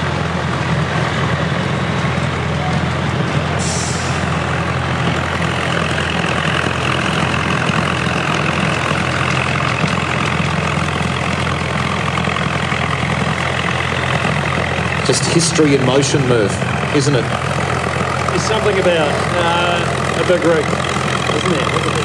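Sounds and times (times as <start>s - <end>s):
truck diesel engine driving past: 0.0s - 22.0s.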